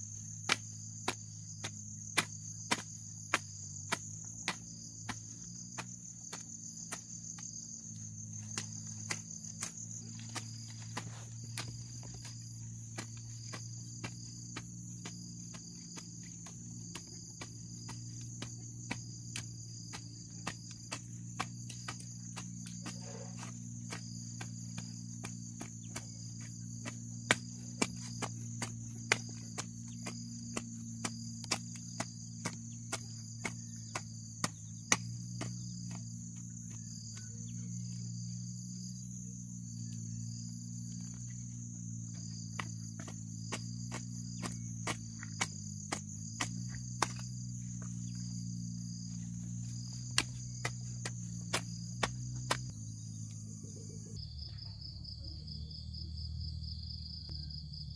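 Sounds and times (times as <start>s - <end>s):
hoe chopping into soil: 0.0s - 52.8s
crickets chirring: 0.0s - 57.9s
pulsing insect call: 0.0s - 57.9s.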